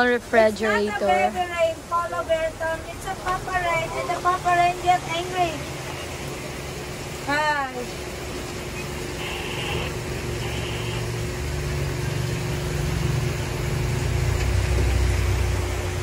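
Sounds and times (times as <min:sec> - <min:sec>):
faint steady hum: 0:00.0 - 0:16.0
low engine rumble: 0:00.0 - 0:16.0.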